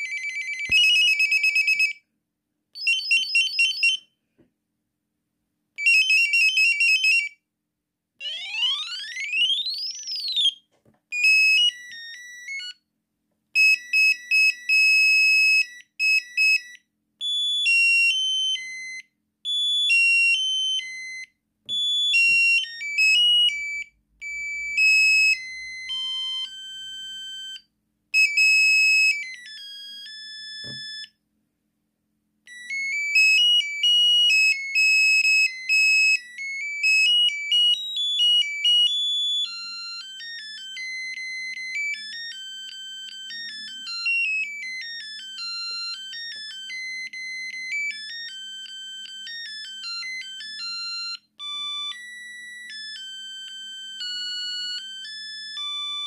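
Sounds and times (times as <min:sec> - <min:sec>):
mobile phone ringtones: 0:00.0 - 0:02.0, 0:02.8 - 0:04.0, 0:08.2 - 0:12.8, 0:13.6 - 0:27.6, 0:28.2 - 0:31.1, 0:32.5 - 0:56.0.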